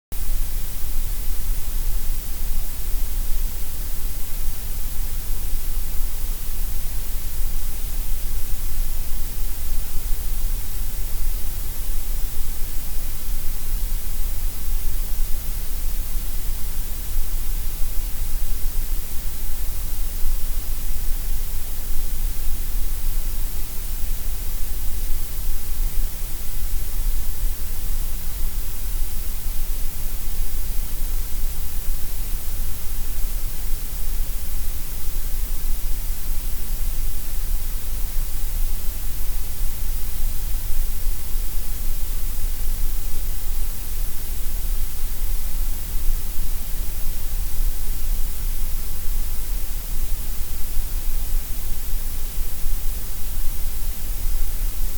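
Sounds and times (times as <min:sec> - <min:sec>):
gray noise hiss: 0:00.2 - 0:54.9.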